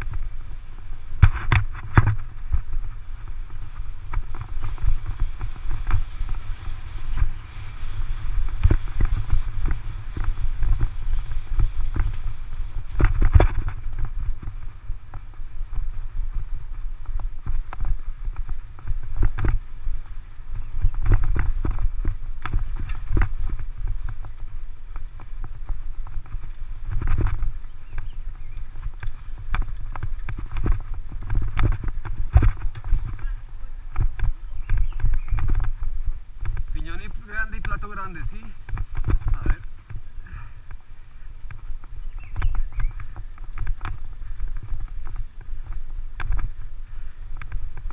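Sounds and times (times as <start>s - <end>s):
bike rattling over bumps: 0.0s - 47.9s
wind rumbling on microphone: 0.0s - 47.9s.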